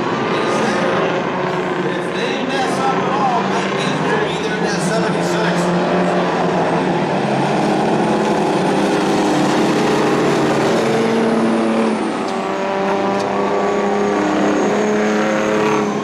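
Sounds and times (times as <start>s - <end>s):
model race truck engines: 0.0s - 16.0s.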